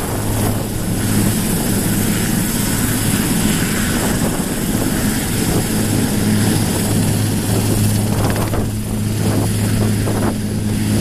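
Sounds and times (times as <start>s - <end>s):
helicopter rotors droning: 0.0s - 11.0s
high turbine whine: 0.0s - 11.0s.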